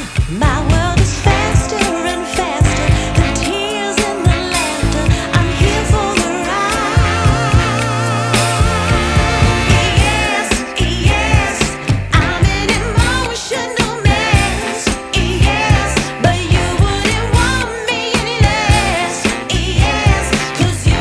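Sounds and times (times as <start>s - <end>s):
repeated bass beat: 0.0s - 21.0s
person singing with wavering voice: 0.3s - 21.0s.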